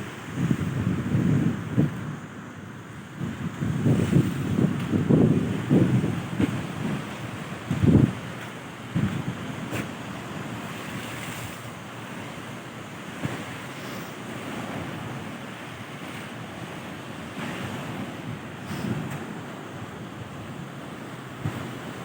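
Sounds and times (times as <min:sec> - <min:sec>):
sea waves washing onto beach: 0:00.0 - 0:22.0
wind buffeting microphone: 0:00.0 - 0:22.0.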